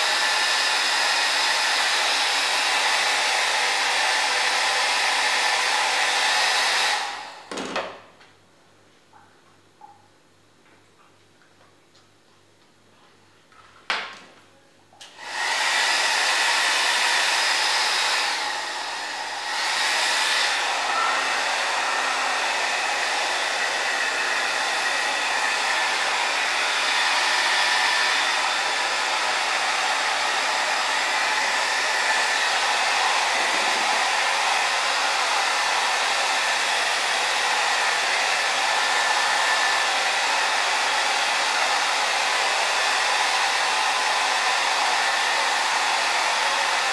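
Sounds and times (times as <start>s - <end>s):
hair dryer blowing: 0.0s - 7.8s, 15.1s - 46.9s.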